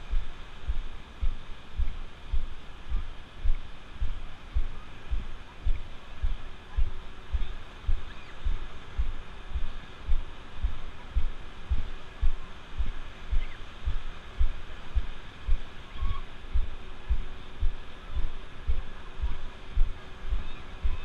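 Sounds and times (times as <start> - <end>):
faint distant voices: 0.0 - 21.0
footsteps on wet sand: 0.1 - 21.0.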